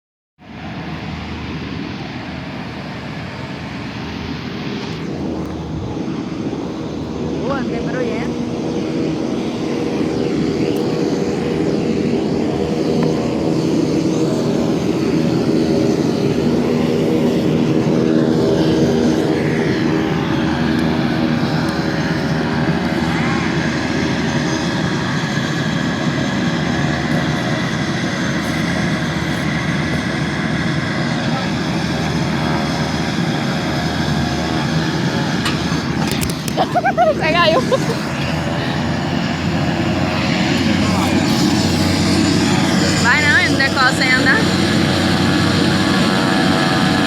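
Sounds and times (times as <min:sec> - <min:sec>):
airplane engine running: 0:00.4 - 0:47.0.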